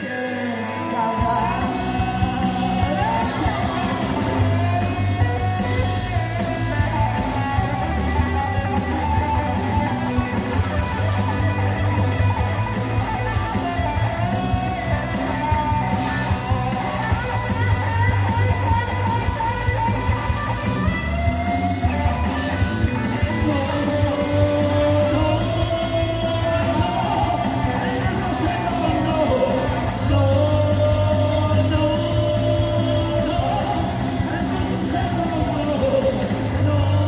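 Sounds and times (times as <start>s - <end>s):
bass guitar: 0.0s - 37.0s
electric guitars: 0.0s - 37.0s
drum kit: 1.1s - 37.0s.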